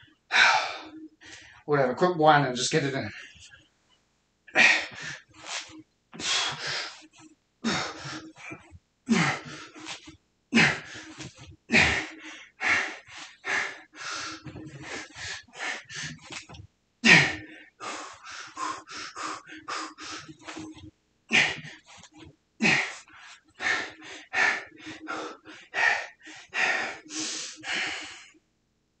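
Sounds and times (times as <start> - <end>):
man breathing heavily and gasping: 0.2 - 1.7, 4.5 - 28.4.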